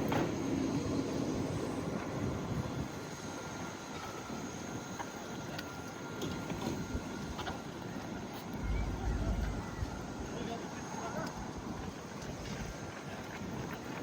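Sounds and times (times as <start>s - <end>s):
faint steady whine: 0.0s - 14.0s.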